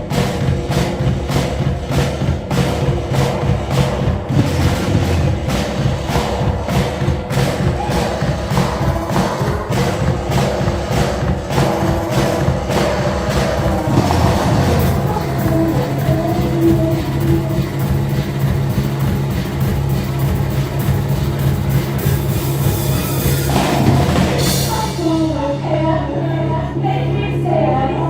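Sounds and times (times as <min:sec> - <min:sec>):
steady drum beat: 0:00.0 - 0:25.6
live band playing loudly: 0:00.0 - 0:25.7
sustained bass line: 0:00.0 - 0:28.0.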